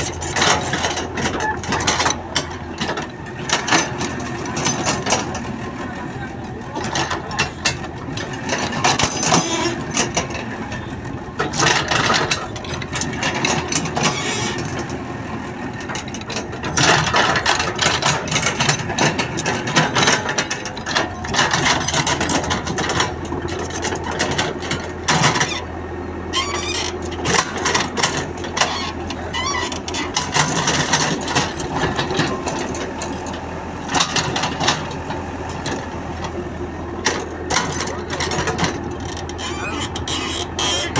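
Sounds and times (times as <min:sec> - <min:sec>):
diesel engine under hydraulic load: 0:00.0 - 0:40.9
excavator bucket clanking and scraping: 0:00.0 - 0:40.9.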